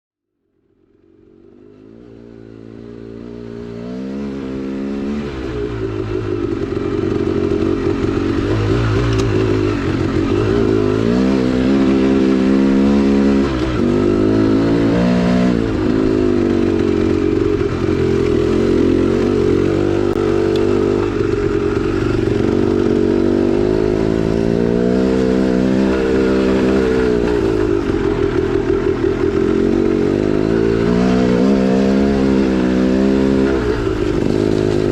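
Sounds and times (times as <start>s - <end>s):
dirt bike engine revving: 1.3s - 34.9s.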